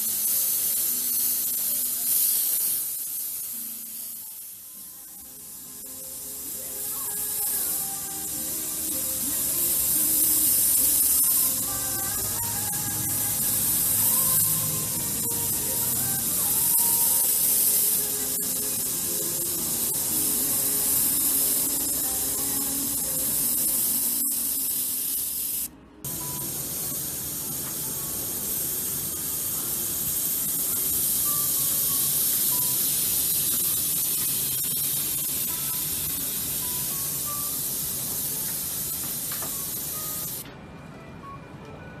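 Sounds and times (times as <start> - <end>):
airbrush hissing: 0.0 - 27.6, 28.2 - 40.4
soft music: 0.0 - 42.0.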